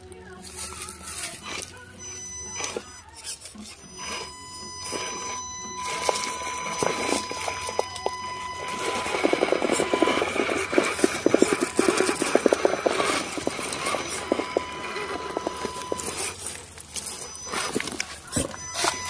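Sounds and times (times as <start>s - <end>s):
rc car clattering over rock: 0.2s - 19.0s.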